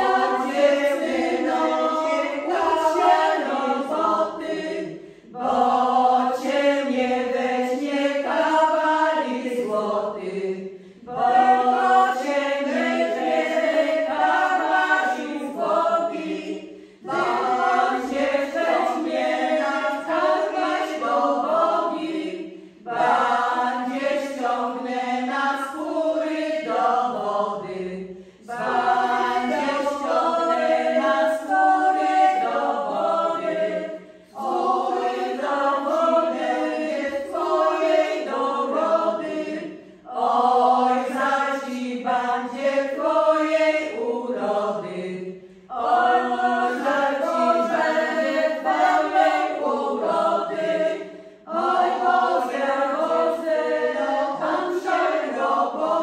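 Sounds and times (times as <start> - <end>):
women singing unaccompanied: 0.0 - 56.0.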